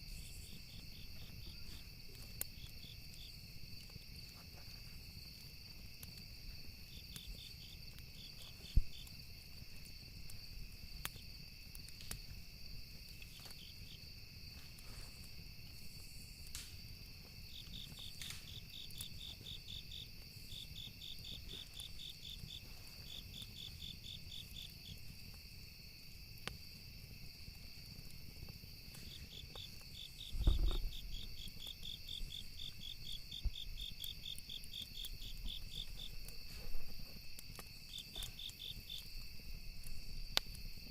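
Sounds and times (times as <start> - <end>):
campfire wood crackling and popping: 0.0 - 40.9
insects chirping: 0.0 - 40.9.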